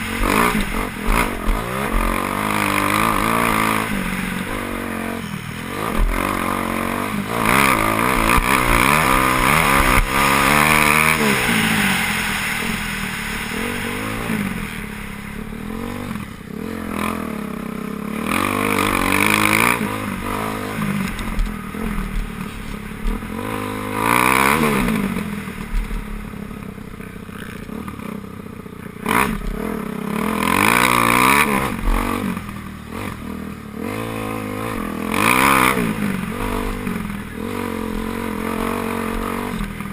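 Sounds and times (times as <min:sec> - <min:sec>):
motocross bikes racing: 0:00.0 - 0:39.9.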